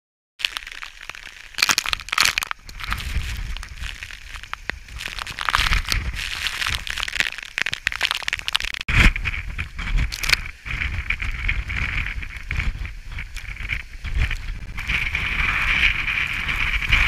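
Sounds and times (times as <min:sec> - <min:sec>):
crackling and hiss: 0:00.4 - 0:17.0
wind buffeting microphone: 0:01.6 - 0:17.0.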